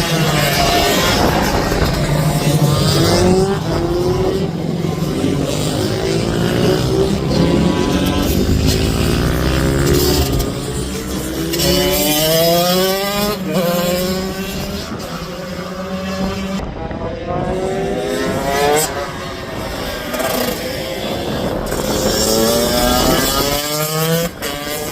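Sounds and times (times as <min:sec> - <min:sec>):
minibike engines revving: 0:00.0 - 0:16.6, 0:17.4 - 0:24.9.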